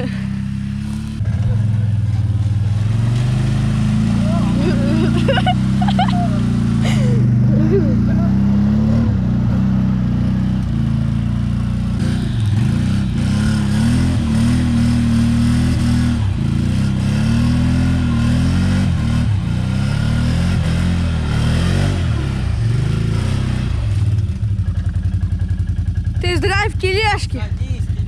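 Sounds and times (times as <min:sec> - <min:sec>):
small vehicle engine revving and idling: 0:00.0 - 0:28.0.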